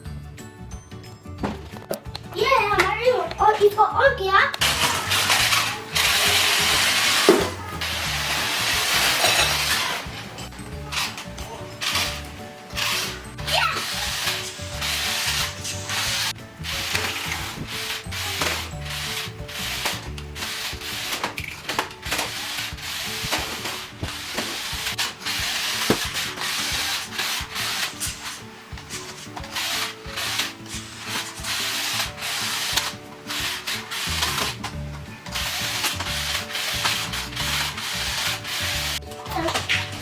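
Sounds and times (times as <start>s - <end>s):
wheels scraping over ground: 1.6s - 40.0s
toy car motor whirring: 2.4s - 40.0s.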